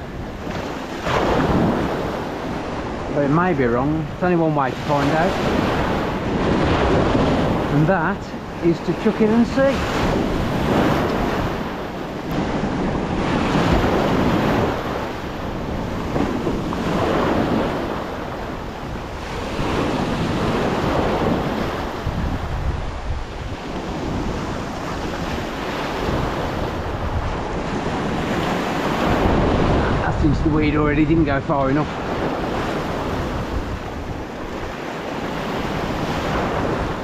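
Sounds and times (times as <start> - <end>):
waves breaking in surf: 0.0 - 37.0
wind buffeting microphone: 0.0 - 37.0.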